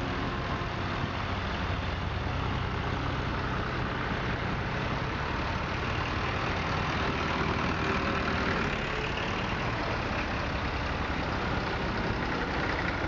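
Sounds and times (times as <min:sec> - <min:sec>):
tractor engines driving past: 0:00.0 - 0:13.0.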